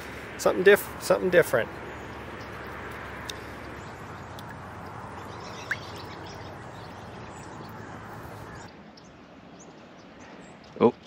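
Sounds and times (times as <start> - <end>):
outdoor background noise: 0.0 - 11.0
rising bird chirp: 1.7 - 11.0.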